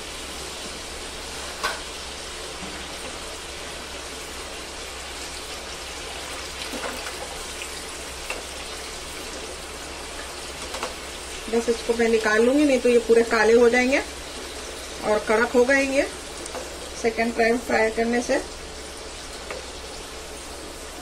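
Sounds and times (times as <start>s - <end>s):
fries sizzling in hot oil: 0.0s - 21.0s.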